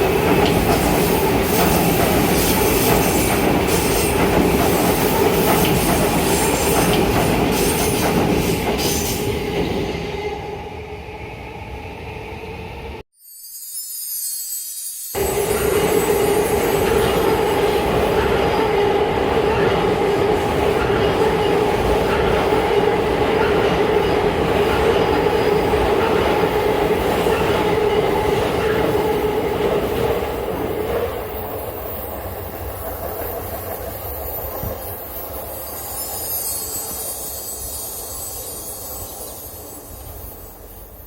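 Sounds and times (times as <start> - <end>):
train rumbling on rails: 0.0 - 13.0, 15.2 - 41.0.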